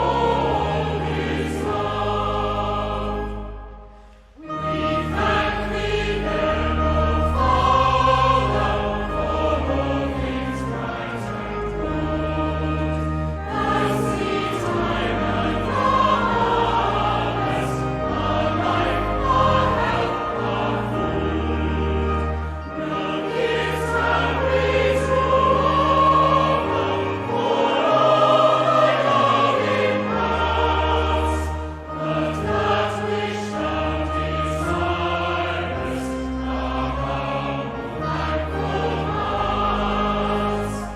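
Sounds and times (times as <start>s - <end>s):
choir singing a hymn: 0.0s - 40.9s
instrumental accompaniment: 0.0s - 40.9s.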